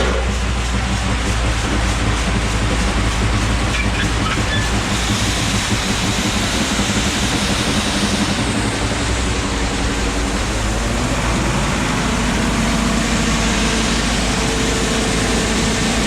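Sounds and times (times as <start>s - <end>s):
low engine hum: 0.0s - 16.0s
machinery rattle and rumble: 0.0s - 16.0s.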